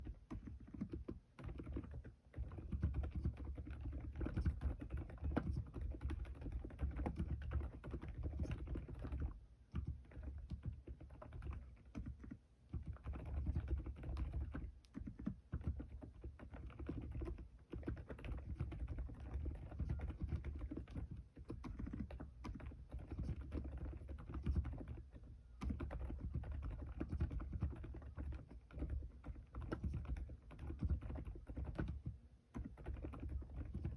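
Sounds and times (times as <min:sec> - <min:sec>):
muted keyboard typing: 0:00.0 - 0:33.9.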